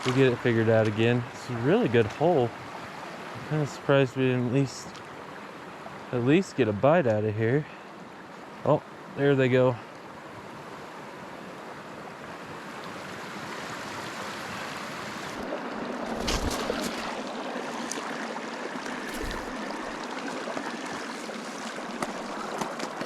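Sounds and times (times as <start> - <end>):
river water flowing: 0.9 - 6.8, 9.8 - 23.0.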